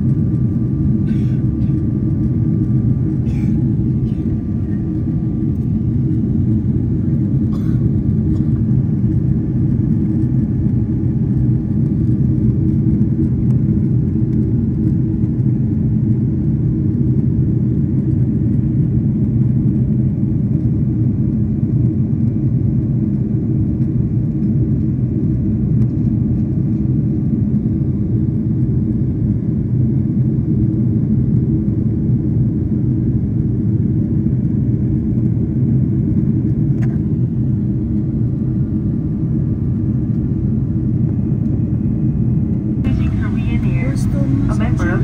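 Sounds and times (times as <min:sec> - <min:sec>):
jet airliner cabin noise: 0:00.0 - 0:45.0.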